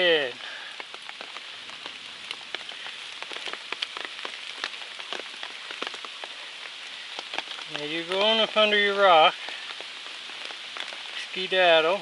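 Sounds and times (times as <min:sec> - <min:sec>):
raindrops ticking close by: 0:00.0 - 0:12.0
steady rain hiss: 0:00.0 - 0:12.0.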